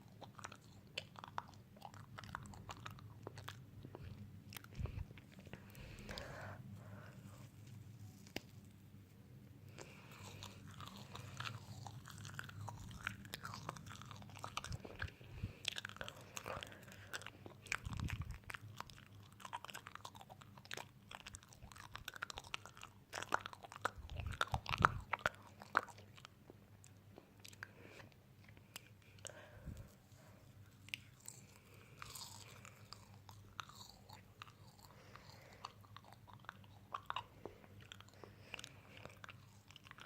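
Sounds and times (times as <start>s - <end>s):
chewing crunchy food: 0.0s - 8.8s, 9.7s - 40.0s.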